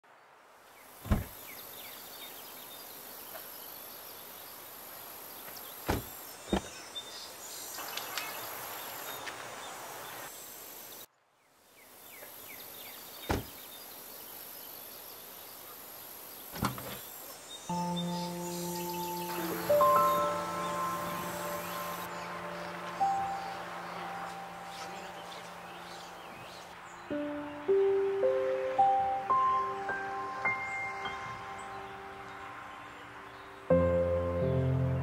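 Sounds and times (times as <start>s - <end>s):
high outdoor hiss: 0.0s - 35.0s.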